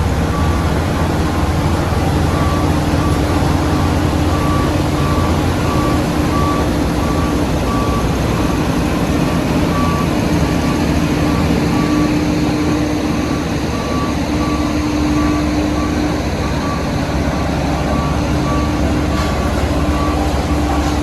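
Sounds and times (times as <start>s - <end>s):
diesel construction machine running: 0.0s - 21.0s
reverse alarm beeping: 0.3s - 21.0s.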